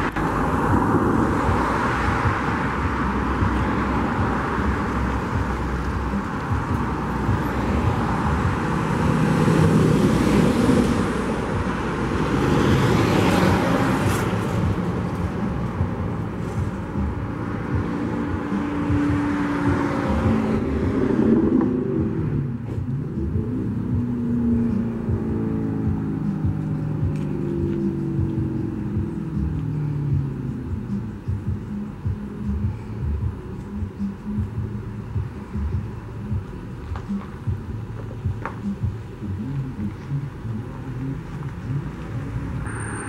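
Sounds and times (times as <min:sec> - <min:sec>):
diesel engines running: 0:00.0 - 0:43.0
trucks and cars passing: 0:00.0 - 0:43.0.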